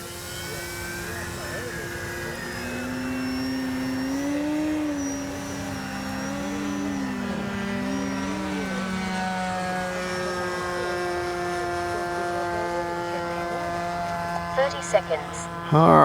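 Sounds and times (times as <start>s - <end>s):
rc plane motor whine: 0.0s - 16.0s.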